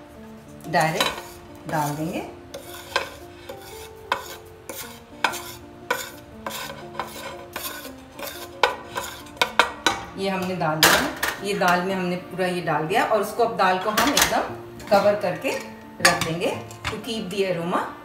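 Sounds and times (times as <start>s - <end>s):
soft background music: 0.0s - 18.0s
utensil scraping iron pan: 0.7s - 11.8s, 13.9s - 17.2s.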